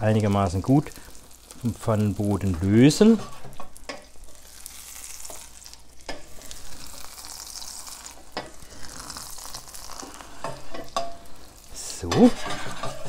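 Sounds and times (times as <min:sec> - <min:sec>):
omelette sizzling in a frying pan: 0:00.0 - 0:13.0
wooden spatula scraping a pan: 0:00.4 - 0:13.0.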